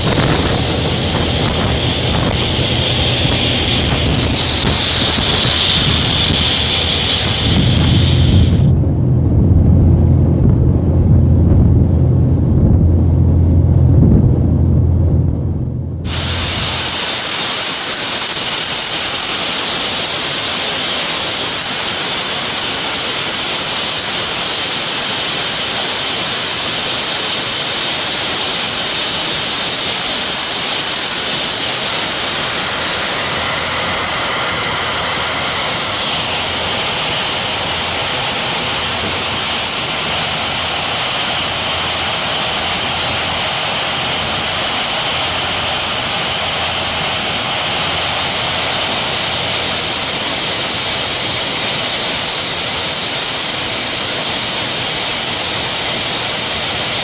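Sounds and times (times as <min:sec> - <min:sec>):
marine diesel engines roaring: 0:00.0 - 0:25.6, 0:29.4 - 0:52.7
turbocharger whines: 0:00.0 - 0:57.0.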